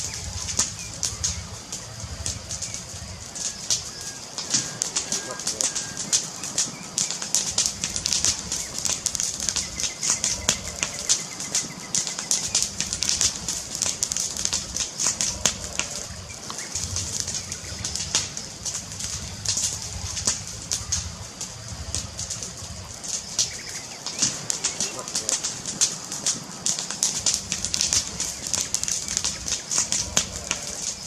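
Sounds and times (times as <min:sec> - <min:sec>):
low rumble: 0:00.0 - 0:11.2, 0:12.4 - 0:24.6, 0:25.3 - 0:31.0
wood fire crackling: 0:00.0 - 0:31.0.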